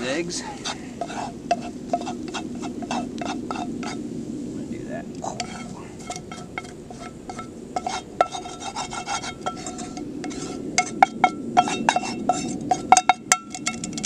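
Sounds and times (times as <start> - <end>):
utensil scraping metal skillet: 0.0 - 4.0, 5.3 - 14.0.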